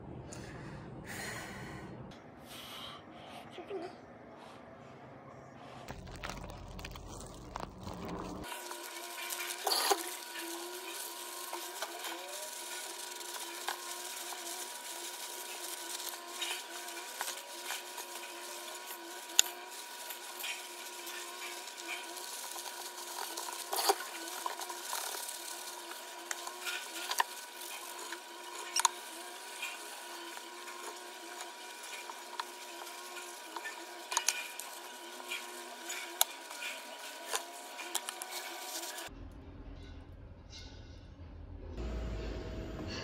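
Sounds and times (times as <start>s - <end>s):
electrical hum: 0.0s - 39.9s, 41.6s - 43.0s.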